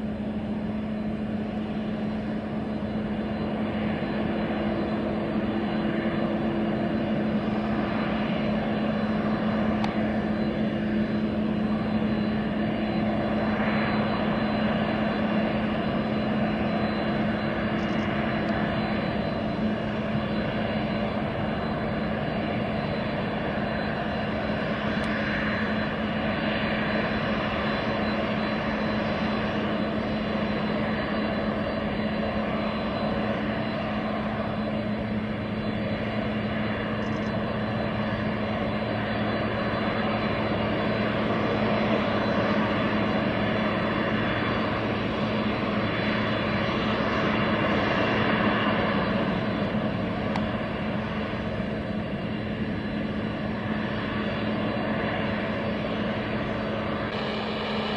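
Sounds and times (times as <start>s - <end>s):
constant low hum: 0.0s - 57.9s
jet engine whine: 0.0s - 57.9s.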